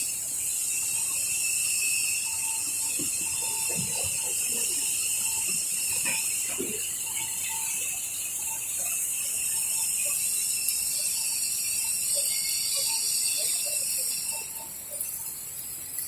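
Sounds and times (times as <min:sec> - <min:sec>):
faint irregular ticking and rattling: 0:00.0 - 0:16.0
machine high-pitched whine and hiss: 0:00.0 - 0:16.0.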